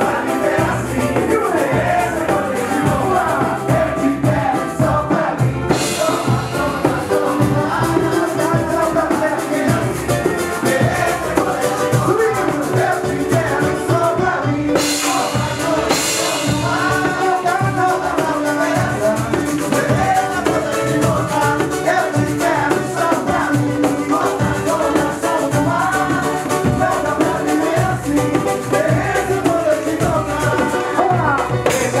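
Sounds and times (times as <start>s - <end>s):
live band with singing: 0.0s - 32.0s.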